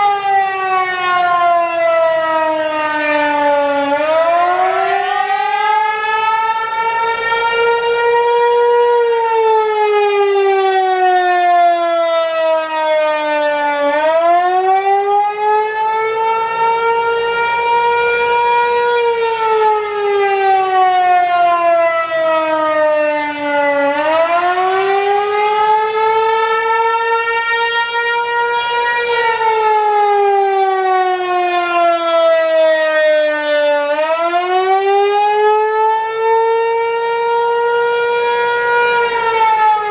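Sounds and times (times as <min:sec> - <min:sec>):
outdoor warning siren sweeping: 0:00.0 - 0:39.9.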